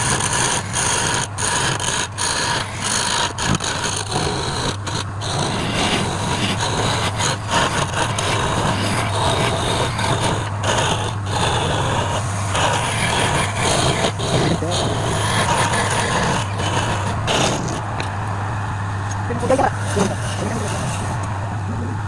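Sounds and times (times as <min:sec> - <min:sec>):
tool scraping spinning wood: 0:00.0 - 0:21.6
lathe motor humming: 0:00.0 - 0:21.7.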